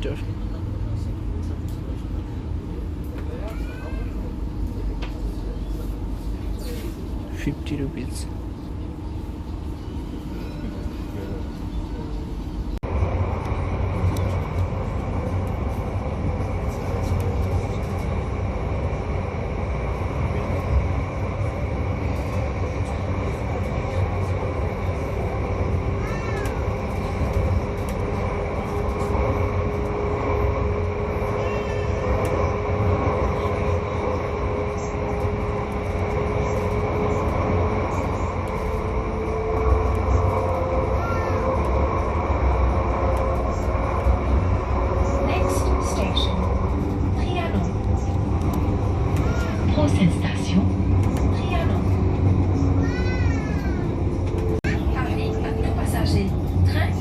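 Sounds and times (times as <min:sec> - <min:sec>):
tram rumble: 0:00.0 - 0:57.0.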